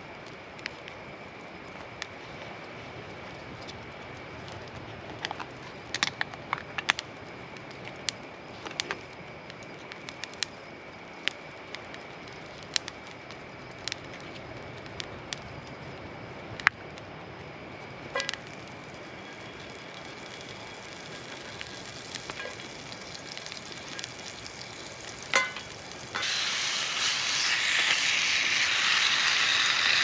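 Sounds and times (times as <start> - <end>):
campfire crackling and popping: 0.0 - 30.0
soft steady hiss: 0.0 - 30.0.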